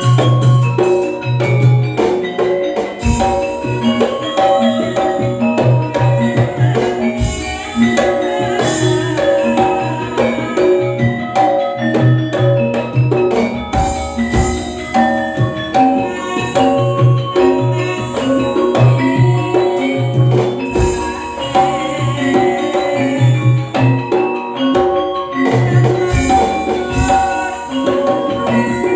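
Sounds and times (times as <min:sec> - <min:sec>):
drums: 0:00.0 - 0:28.9
mallet percussion notes: 0:00.0 - 0:28.9.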